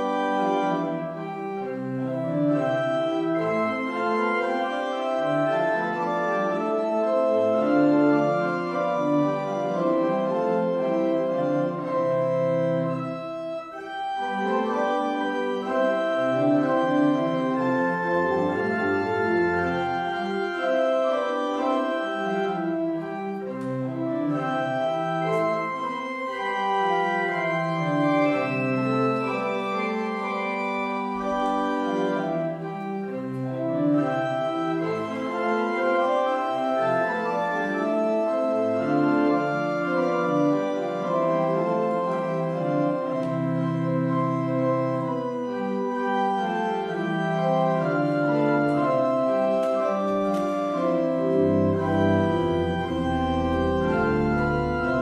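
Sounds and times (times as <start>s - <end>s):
church organ playing: 0.0s - 55.0s.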